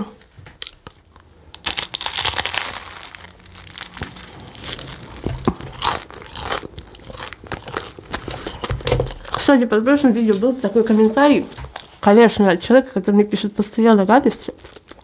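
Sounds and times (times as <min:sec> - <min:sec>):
pastry crunching and crinkling: 0:00.2 - 0:12.7, 0:13.5 - 0:15.0.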